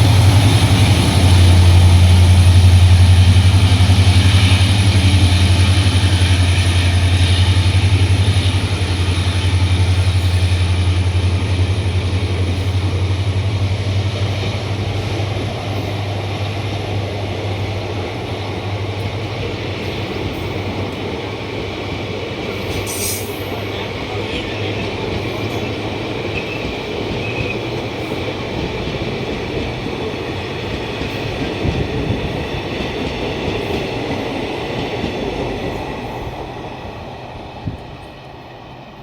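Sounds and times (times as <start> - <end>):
diesel locomotive engine hum: 0.0 - 39.0
train coaches rolling past: 0.0 - 39.0.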